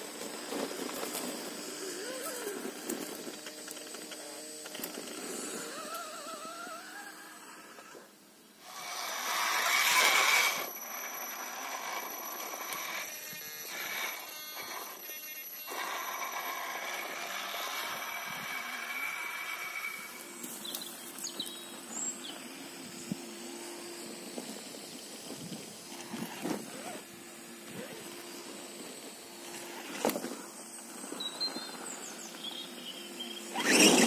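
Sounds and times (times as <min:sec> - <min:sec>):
electric motors whining: 0:00.0 - 0:34.0.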